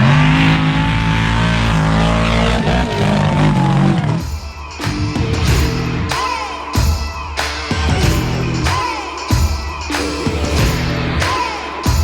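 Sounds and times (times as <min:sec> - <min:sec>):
music with heavy beat and deep bass: 0:00.0 - 0:12.0.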